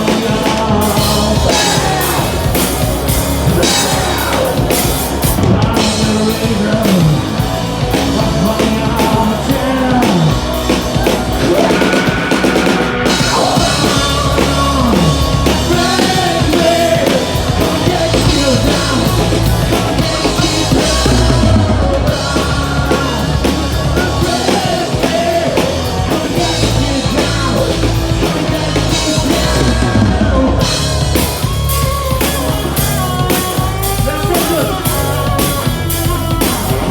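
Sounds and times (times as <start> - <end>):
bass guitar: 0.0 - 36.9
drum kit: 0.0 - 36.9
electric guitars: 0.0 - 36.9.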